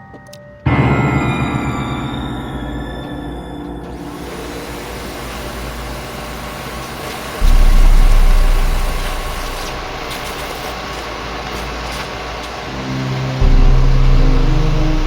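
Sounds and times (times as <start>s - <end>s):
loud low rumble: 0.7s - 15.0s
motor-like whooshing: 2.5s - 15.0s.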